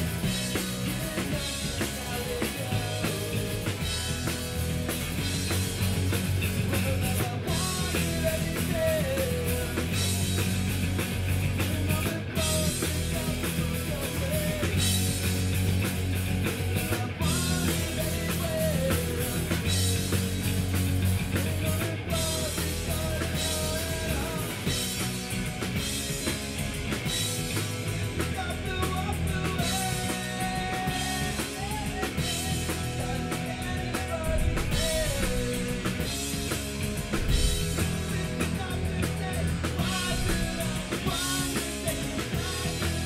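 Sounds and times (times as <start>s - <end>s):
bass guitar: 0.0s - 43.0s
distorted electric guitars: 0.0s - 43.0s
drum kit: 0.0s - 43.0s.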